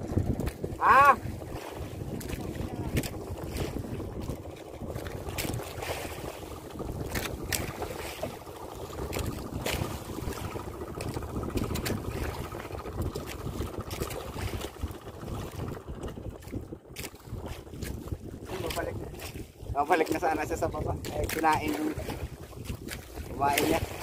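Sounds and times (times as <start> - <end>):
sea water around boat: 0.0 - 24.0
wind buffeting microphone: 0.0 - 24.0.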